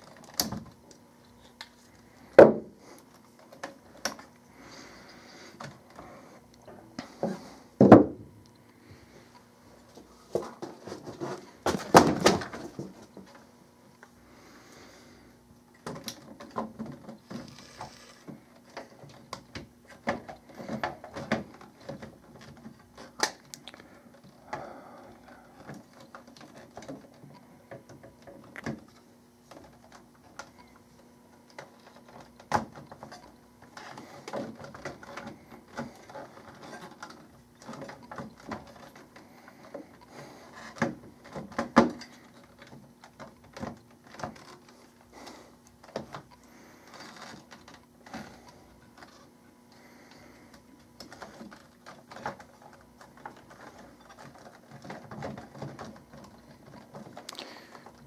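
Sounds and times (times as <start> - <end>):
faint hum: 0.0 - 58.0.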